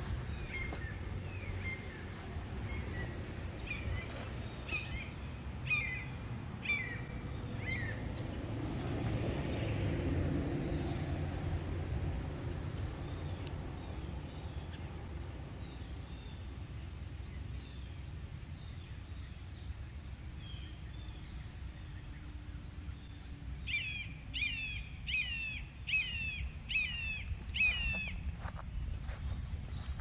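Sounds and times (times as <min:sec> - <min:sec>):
songbird singing: 0:00.0 - 0:30.0.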